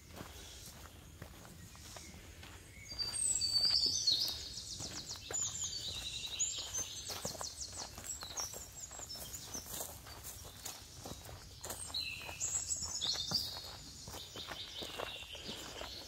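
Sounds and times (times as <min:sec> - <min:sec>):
footsteps on gravel: 0:00.0 - 0:16.0.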